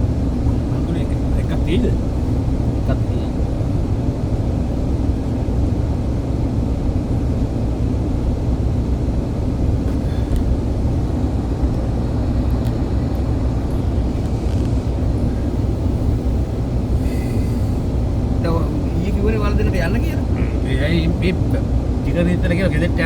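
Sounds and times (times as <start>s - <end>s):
vehicle rumbling: 0.0s - 23.0s.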